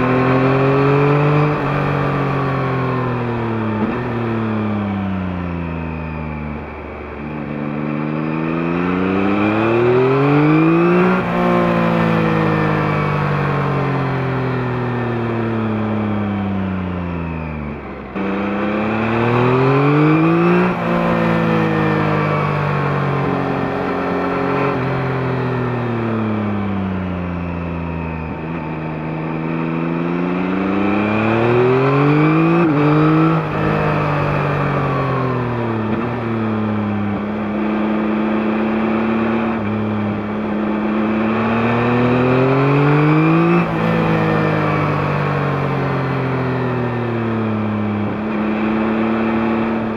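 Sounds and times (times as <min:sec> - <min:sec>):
motorcycle engine revving with upshifts: 0:00.0 - 0:49.9.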